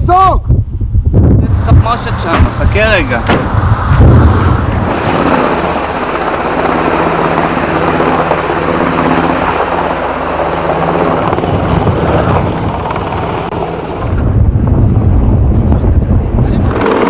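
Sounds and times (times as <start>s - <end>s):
heavy rushing noise: 1.0s - 17.0s
loud engine drone: 1.3s - 17.0s.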